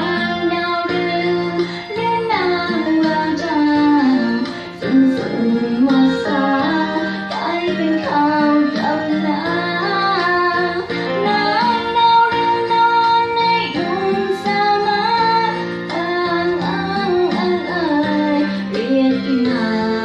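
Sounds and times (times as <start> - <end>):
instrumental backing music: 0.0 - 20.0
woman singing into a microphone: 0.0 - 20.0.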